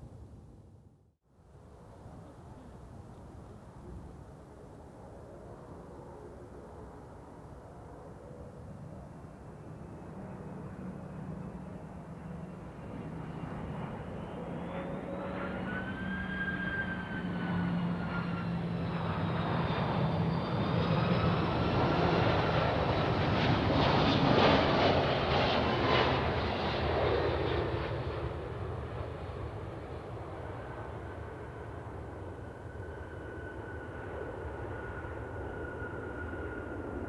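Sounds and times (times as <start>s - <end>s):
jet airliner engines whining: 5.0s - 37.0s.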